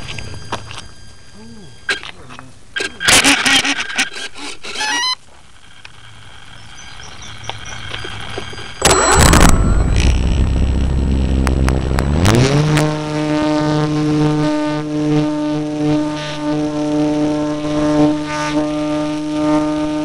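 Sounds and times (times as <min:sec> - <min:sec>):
electric motor and propeller whine: 0:00.0 - 0:02.1, 0:03.7 - 0:20.0.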